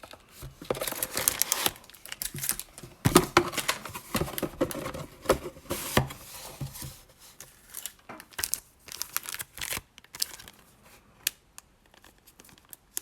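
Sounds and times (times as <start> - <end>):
plastic wrap crinkling and tearing: 0.0 - 6.1, 7.3 - 13.0.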